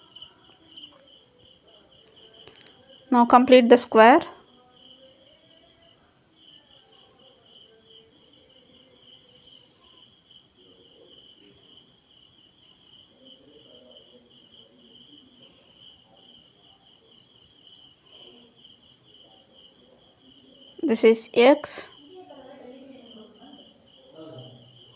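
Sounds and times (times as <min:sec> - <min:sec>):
crickets chirping: 0:00.0 - 0:24.9.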